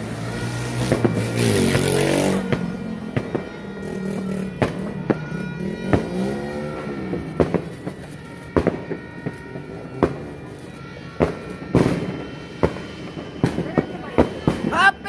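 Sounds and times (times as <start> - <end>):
firecrackers and fireworks banging: 0.0 - 15.0.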